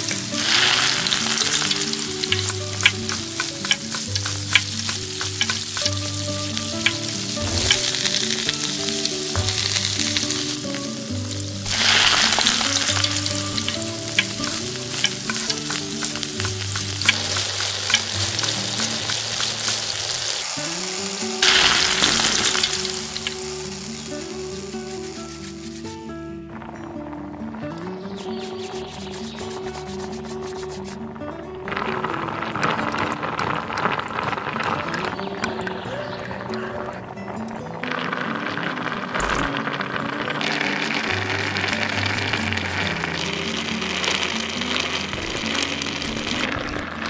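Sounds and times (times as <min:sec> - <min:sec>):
curry sizzling and bubbling: 0:00.0 - 0:47.0.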